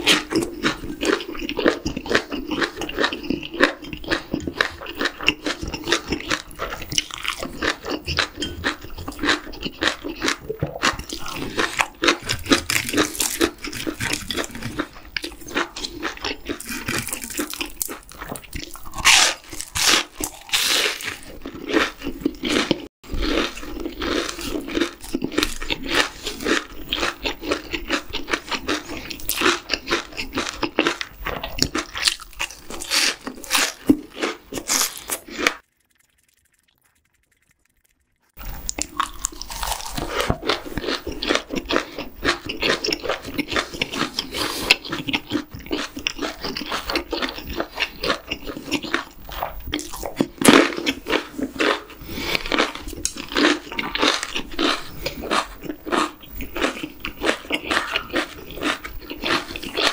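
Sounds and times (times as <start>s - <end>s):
crunching and chewing fried food: 0.0s - 59.9s.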